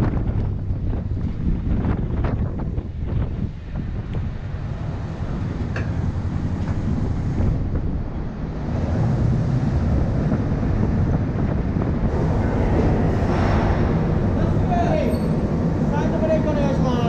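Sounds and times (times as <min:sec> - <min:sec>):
car engine rumbling: 0:00.0 - 0:17.0
wind buffeting microphone: 0:00.0 - 0:17.0.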